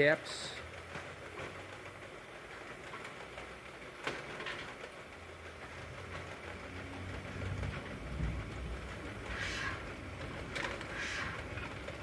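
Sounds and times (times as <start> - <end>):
low machine hum: 0.0 - 12.0
machine rattling: 0.0 - 12.0.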